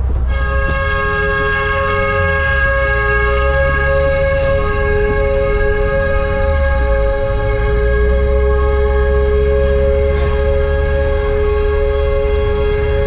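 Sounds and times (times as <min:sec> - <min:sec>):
vehicle rumble: 0:00.0 - 0:13.0
steady two-note horn tone: 0:00.3 - 0:13.0.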